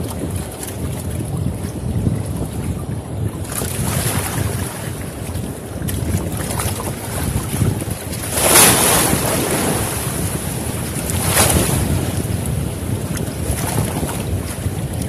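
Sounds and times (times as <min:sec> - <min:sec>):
waves splashing against posts: 0:00.0 - 0:15.0
wind rumble on microphone: 0:00.0 - 0:15.0.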